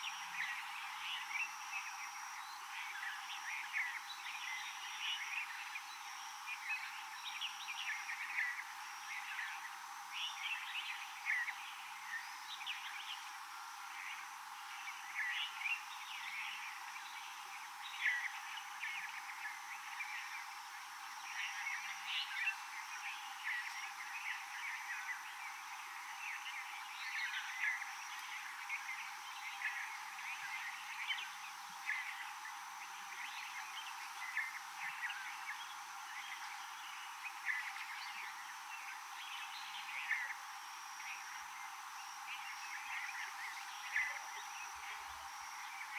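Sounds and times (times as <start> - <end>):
steady hiss: 0.0 - 45.9
thin high whine: 0.0 - 45.9.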